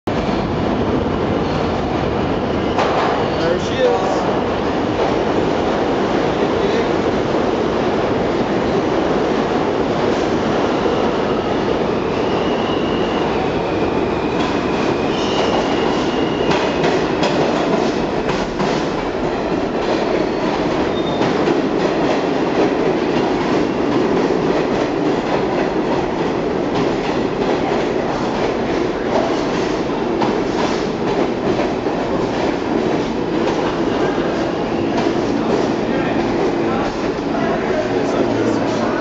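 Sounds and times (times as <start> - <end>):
train rumbling: 0.1 - 39.0.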